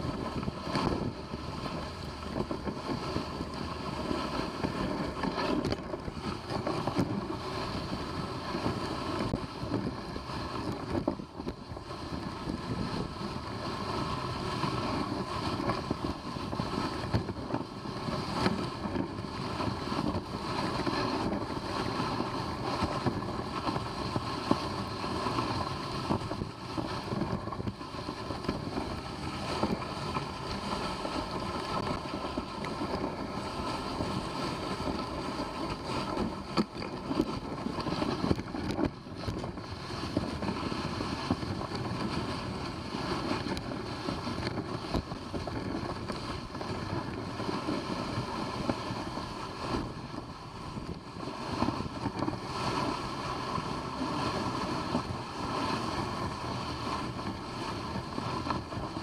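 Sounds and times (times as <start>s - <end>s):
sled runners hissing on snow: 0.0s - 59.0s
wind on microphone: 0.0s - 59.0s.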